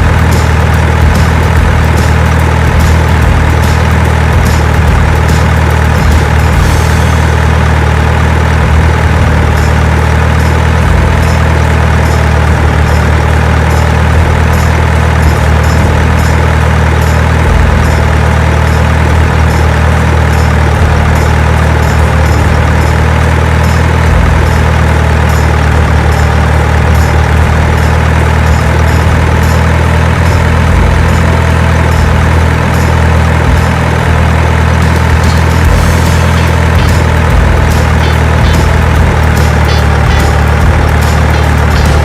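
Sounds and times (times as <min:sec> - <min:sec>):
truck engine drone: 0:00.0 - 0:42.0.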